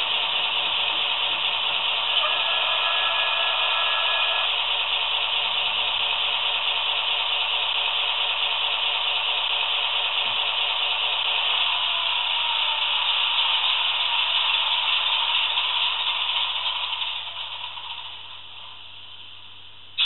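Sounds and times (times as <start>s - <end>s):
model locomotive idling sound: 0.0s - 20.0s.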